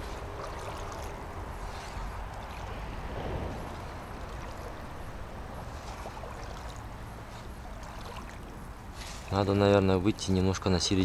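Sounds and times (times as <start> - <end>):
shallow water sloshing: 0.0 - 10.2.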